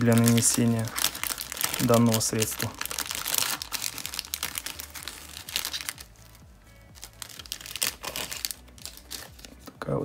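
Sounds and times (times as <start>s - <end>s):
plastic bag crinkling: 0.0s - 9.6s
faint music: 0.0s - 10.0s.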